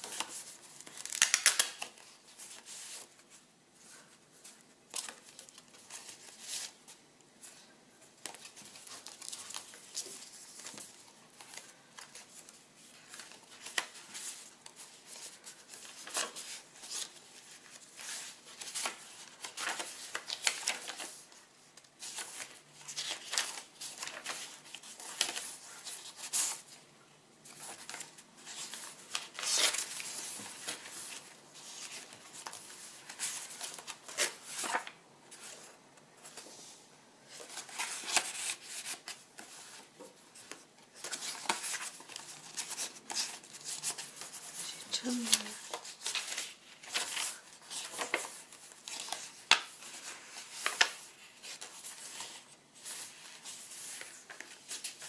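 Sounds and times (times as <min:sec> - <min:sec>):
paper pages rustling and flicking: 0:00.0 - 0:06.8, 0:07.4 - 0:26.7, 0:27.4 - 0:36.7, 0:37.3 - 0:55.0.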